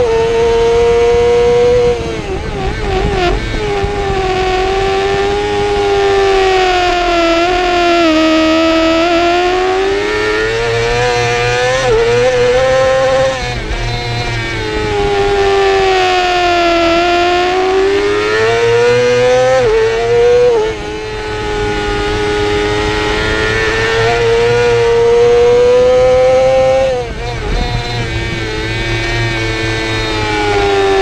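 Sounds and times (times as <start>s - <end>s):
low wind rush: 0.0s - 31.0s
motorcycle engine at high revs: 0.0s - 31.0s.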